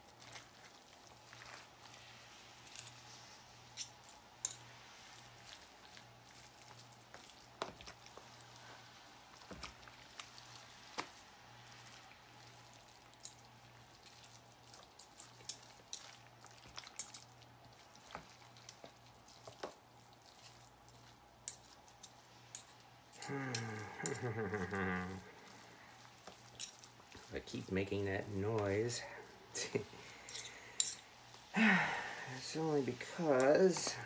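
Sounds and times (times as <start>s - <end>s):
wet squishing: 0.0s - 34.0s.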